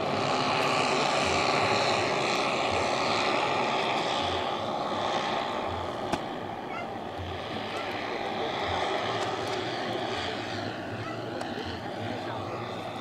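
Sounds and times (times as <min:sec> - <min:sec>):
model plane engines droning: 0:00.0 - 0:13.0.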